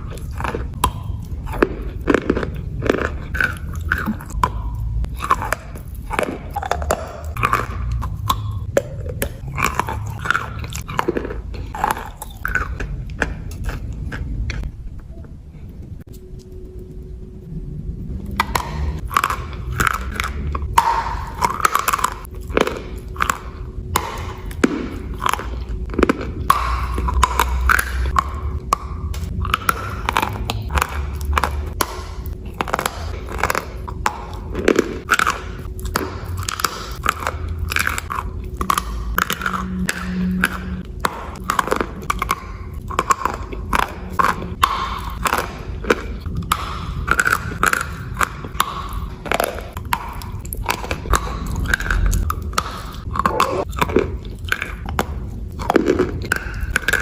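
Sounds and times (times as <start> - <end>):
chewing crunchy chalk: 0.0 - 15.0, 18.2 - 57.0.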